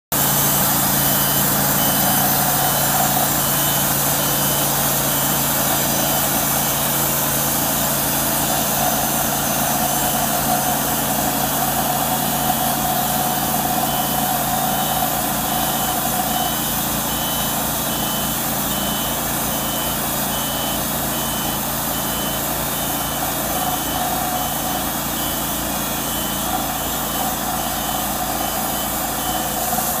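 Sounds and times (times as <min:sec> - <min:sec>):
bandsaw mill sawing wood: 0:00.1 - 0:17.2, 0:17.8 - 0:30.0
faint high pulsed beeping: 0:00.4 - 0:29.8.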